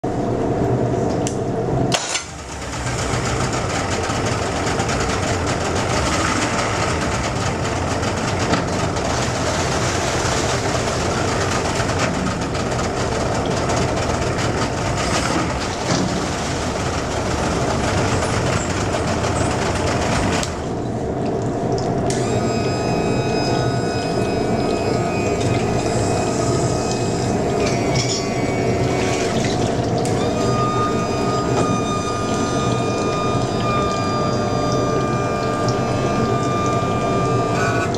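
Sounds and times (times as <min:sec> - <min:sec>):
outboard motor running: 0:02.0 - 0:37.9.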